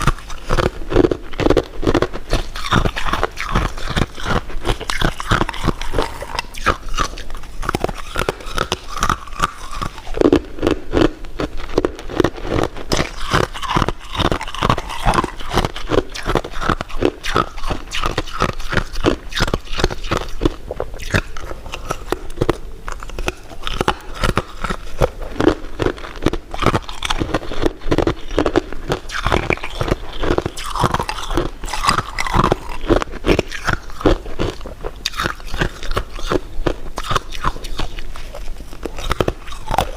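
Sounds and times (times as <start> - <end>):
biting and chewing: 0.0 - 39.9
small food crunches: 0.0 - 39.9.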